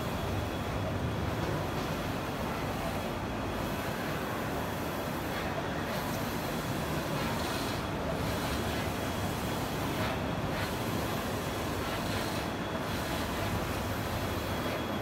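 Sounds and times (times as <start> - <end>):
printer machine hiss and hum: 0.0 - 15.0.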